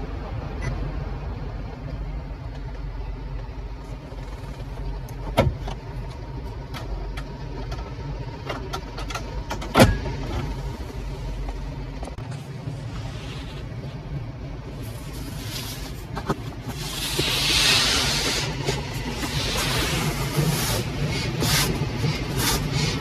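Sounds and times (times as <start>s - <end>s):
low cabin hum: 0.0s - 23.0s.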